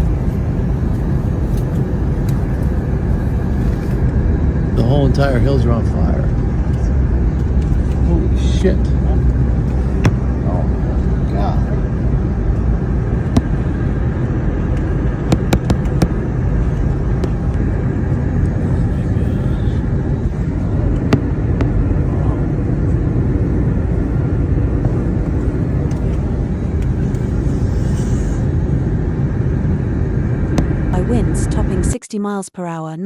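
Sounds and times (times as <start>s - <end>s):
vehicle interior rumble: 0.0s - 32.0s.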